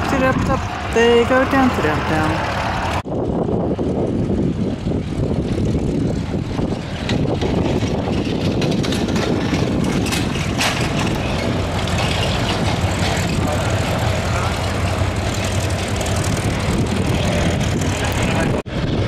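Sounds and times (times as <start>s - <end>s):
propeller aircraft engine: 0.0s - 19.0s.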